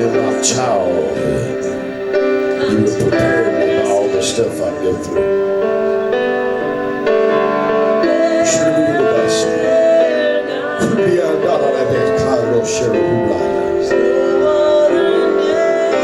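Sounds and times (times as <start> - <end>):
person singing: 0.0 - 5.4, 7.3 - 16.0
sustained keyboard chords: 0.0 - 16.0.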